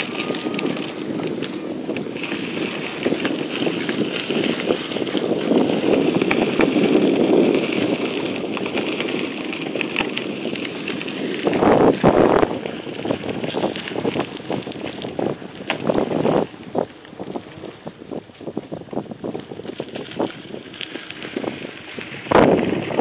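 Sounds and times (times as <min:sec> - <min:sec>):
bicycle tyres rolling on gravel: 0:00.0 - 0:23.0
wind buffeting microphone: 0:00.0 - 0:23.0.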